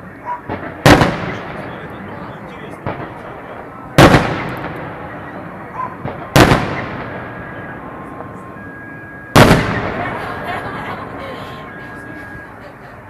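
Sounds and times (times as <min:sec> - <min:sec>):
firework booms: 0:00.4 - 0:12.5.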